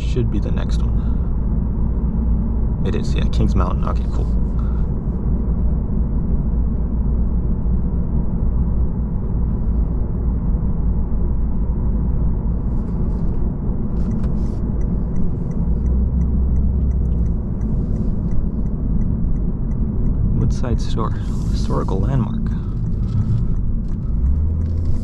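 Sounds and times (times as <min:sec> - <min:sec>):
car cabin road and tyre noise: 0:00.0 - 0:25.0.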